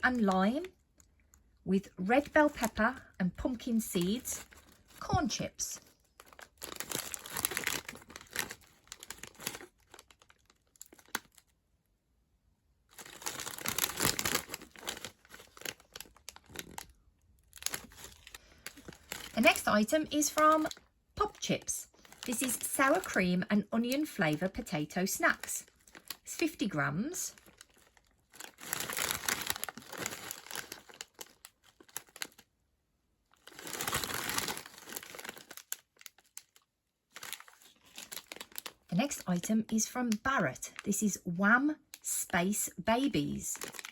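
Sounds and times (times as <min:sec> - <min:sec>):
plastic snack packet crinkling: 0:00.0 - 0:01.6, 0:02.2 - 0:11.6, 0:12.9 - 0:32.5, 0:33.3 - 0:41.0, 0:41.8 - 0:43.9.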